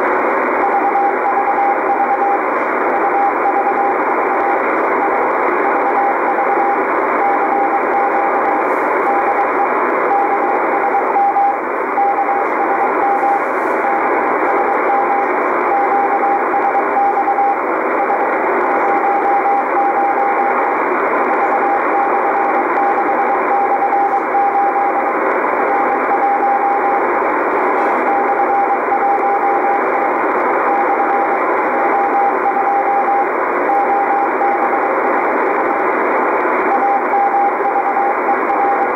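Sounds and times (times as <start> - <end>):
radio band hiss: 0.0 - 38.9
morse code beeps: 0.6 - 35.8, 36.7 - 38.9.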